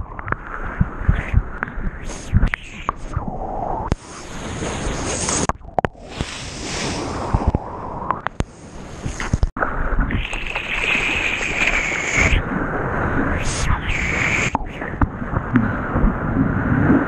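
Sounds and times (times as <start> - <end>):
seawater splashing and rushing: 0.0 - 17.0.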